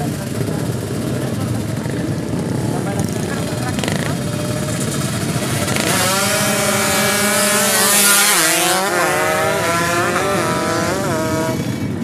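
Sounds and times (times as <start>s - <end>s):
motorcycles accelerating hard: 0.0s - 12.0s.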